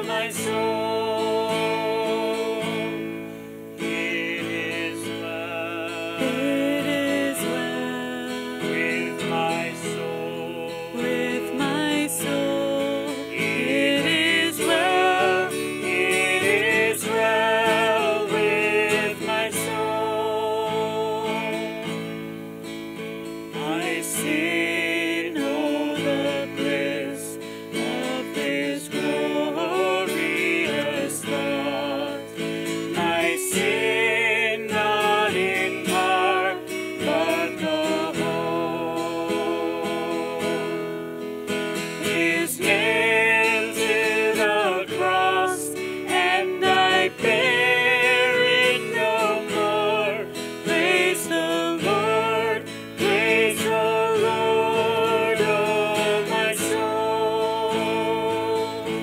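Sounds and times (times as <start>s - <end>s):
man and woman singing: 0.0s - 22.2s, 23.4s - 59.0s
strummed acoustic guitar: 0.0s - 59.0s.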